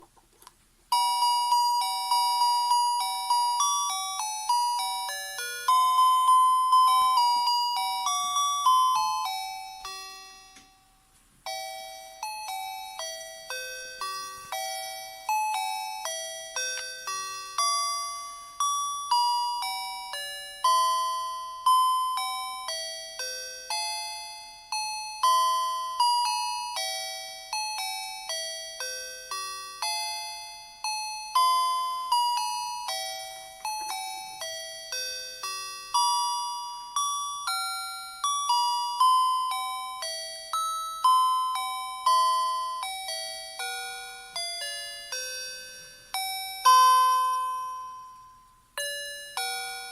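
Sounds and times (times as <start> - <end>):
electronic chiming carol melody: 0.9 - 49.9.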